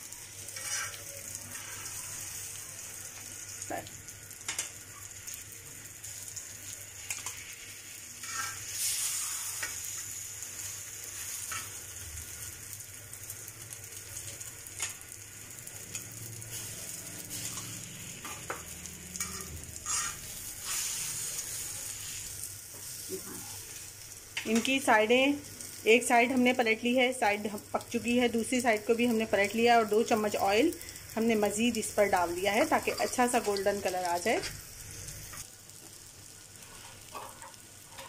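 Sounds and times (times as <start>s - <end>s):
kebabs sizzling in oil: 0.0s - 38.0s.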